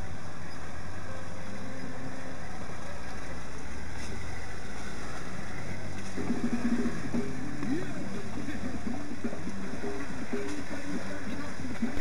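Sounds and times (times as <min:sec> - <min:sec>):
road noise and rattling: 0:00.0 - 0:12.0
vehicle engine running: 0:00.0 - 0:12.0.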